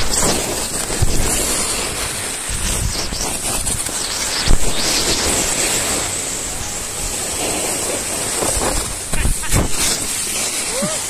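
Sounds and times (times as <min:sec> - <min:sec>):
skis hissing over snow: 0:00.0 - 0:11.0
wind on microphone: 0:00.0 - 0:11.0.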